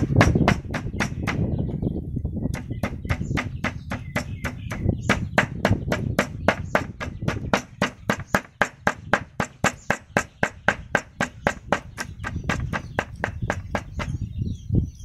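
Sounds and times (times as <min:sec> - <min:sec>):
cleaver chopping on wooden block: 0:00.0 - 0:01.5, 0:02.5 - 0:14.2.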